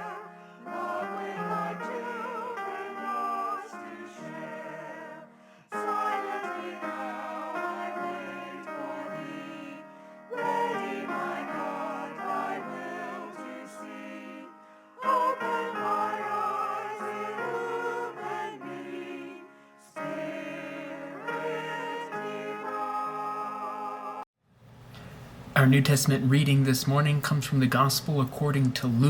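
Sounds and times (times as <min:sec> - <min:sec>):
voices singing church music: 0:00.0 - 0:24.3.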